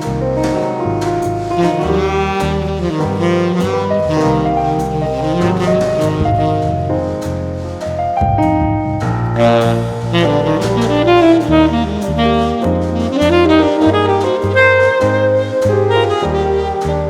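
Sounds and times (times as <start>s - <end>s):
saxophone melody: 0.0s - 8.0s, 9.1s - 17.0s
walking bass line: 0.0s - 17.0s.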